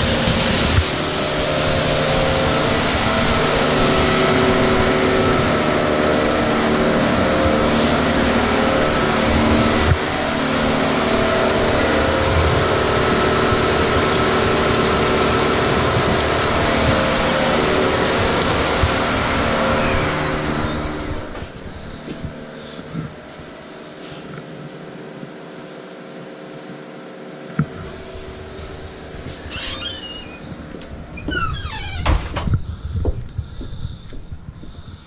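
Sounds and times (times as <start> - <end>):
machinery drone: 0.0 - 35.0.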